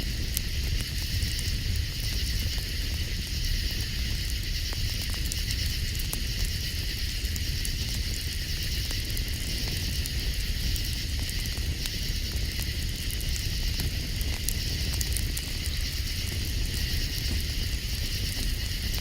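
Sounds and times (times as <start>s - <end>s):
campfire crackling and popping: 0.0s - 19.0s
night insects chorus: 0.0s - 19.0s.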